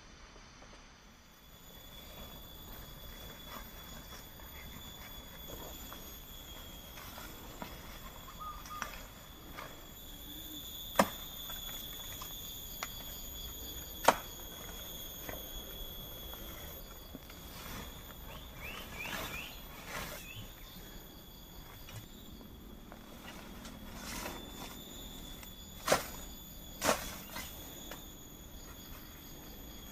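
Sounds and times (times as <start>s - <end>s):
high-pitched hum: 1.0s - 29.9s.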